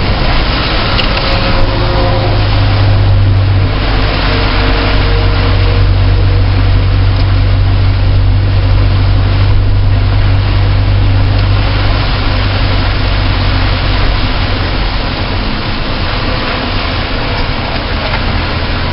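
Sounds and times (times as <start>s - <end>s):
car engine drone: 0.0s - 18.9s
tyre and wind noise: 0.0s - 18.9s.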